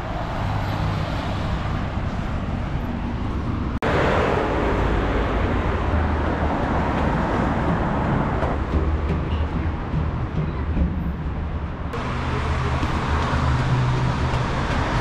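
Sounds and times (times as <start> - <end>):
highway traffic: 0.0 - 15.0.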